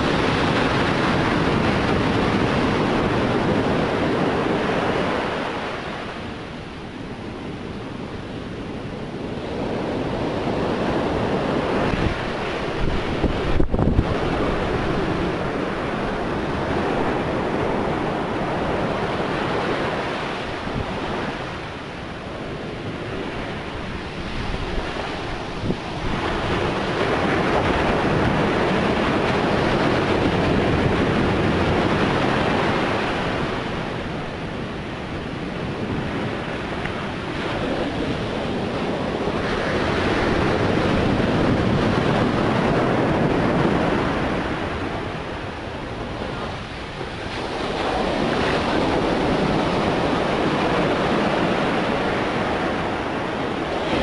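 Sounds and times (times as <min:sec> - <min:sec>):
surf breaking on beach: 0:00.0 - 0:54.0
wind buffeting microphone: 0:00.0 - 0:54.0.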